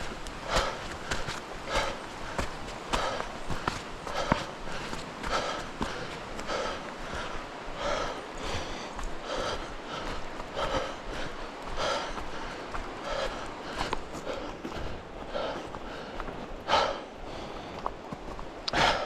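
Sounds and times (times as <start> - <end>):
footsteps on wet trail: 0.0 - 19.0.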